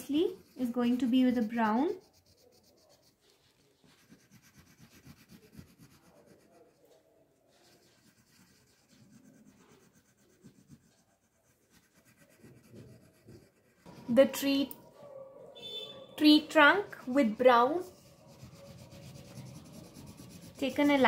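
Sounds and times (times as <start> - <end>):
crayon rubbing on paper: 0.0 - 14.7, 16.2 - 21.0.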